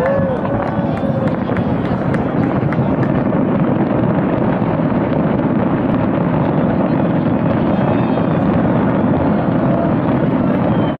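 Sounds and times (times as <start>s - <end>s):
fireworks rumble: 0.0s - 10.9s.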